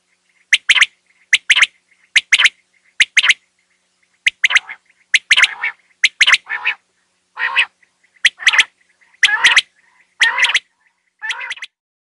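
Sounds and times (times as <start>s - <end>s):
quail calling: 0.0s - 3.4s, 4.2s - 11.8s.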